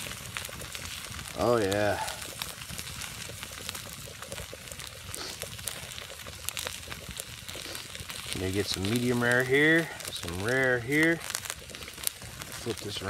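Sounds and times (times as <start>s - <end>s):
campfire crackling and popping: 0.0s - 13.0s
steaks sizzling: 0.0s - 13.0s.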